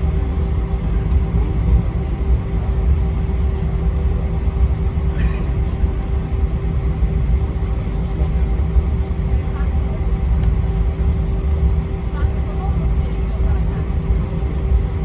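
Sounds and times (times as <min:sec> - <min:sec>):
airplane engines rumbling in cabin: 0:00.0 - 0:15.0
constant hum: 0:00.0 - 0:15.0.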